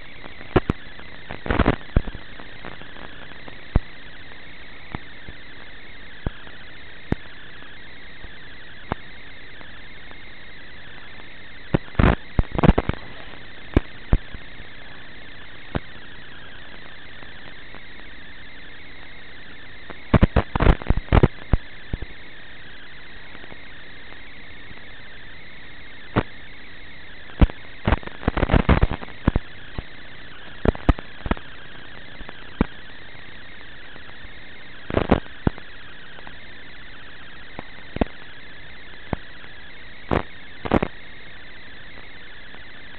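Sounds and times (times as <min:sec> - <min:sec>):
radio static hiss: 0:00.0 - 0:42.9
crackling pops: 0:00.2 - 0:10.2, 0:10.9 - 0:18.1, 0:19.0 - 0:25.0, 0:26.1 - 0:26.4, 0:27.2 - 0:41.0.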